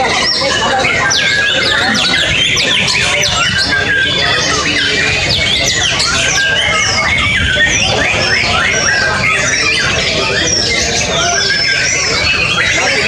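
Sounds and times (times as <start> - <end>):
birds singing fast whistles: 0.0 - 13.0.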